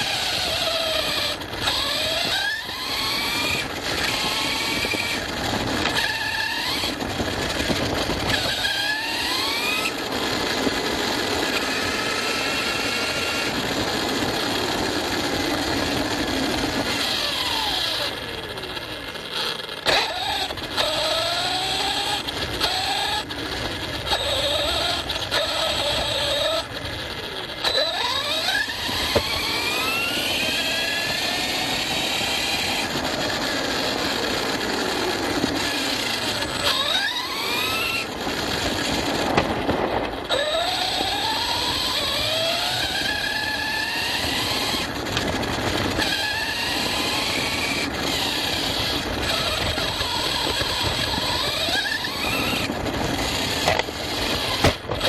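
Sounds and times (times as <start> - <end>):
electric motor whining: 0.0 - 55.0
tyres on rough ground: 0.0 - 55.0.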